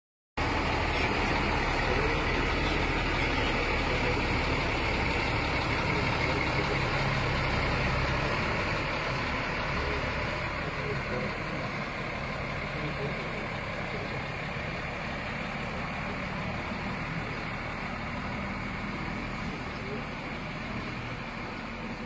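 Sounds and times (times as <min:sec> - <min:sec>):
bus engine idling: 0:00.4 - 0:22.0.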